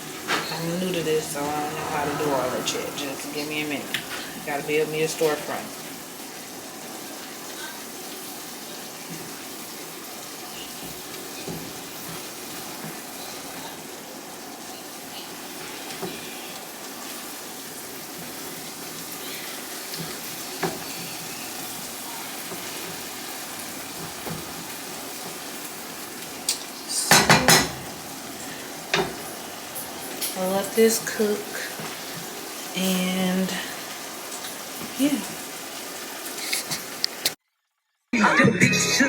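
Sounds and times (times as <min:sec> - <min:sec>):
pan and utensil clattering: 0:00.0 - 0:05.7, 0:10.4 - 0:37.4
meat sizzling in a frying pan: 0:03.3 - 0:37.4.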